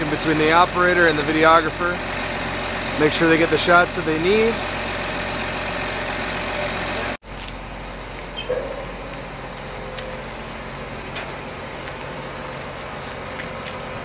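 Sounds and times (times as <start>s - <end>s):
farm machine engine running: 0.0s - 14.0s.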